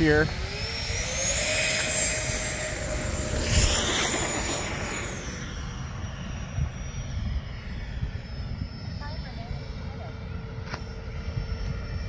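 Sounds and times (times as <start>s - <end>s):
model jet fan whine: 0.0s - 12.0s.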